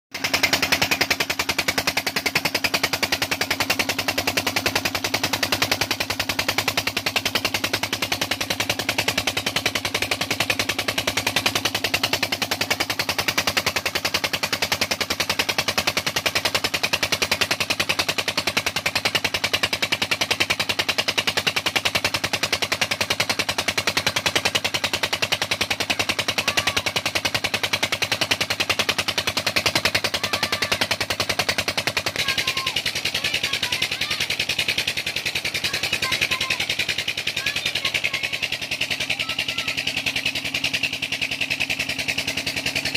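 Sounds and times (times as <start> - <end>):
diesel engine chugging: 0.1 - 42.9.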